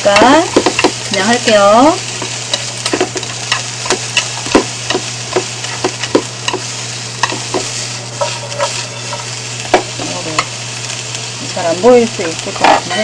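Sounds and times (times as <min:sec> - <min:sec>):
utensils scraping against pan: 0:00.0 - 0:11.0
vegetables sizzling in oil: 0:00.0 - 0:13.0.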